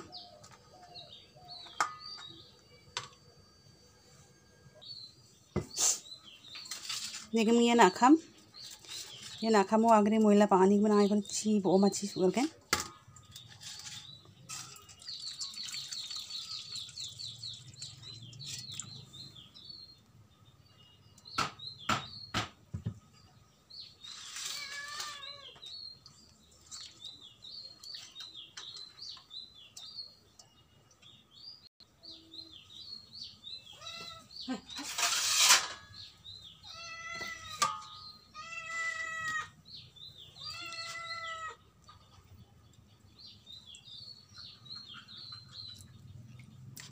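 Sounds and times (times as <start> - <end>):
small birds chirping: 4.8 - 46.9.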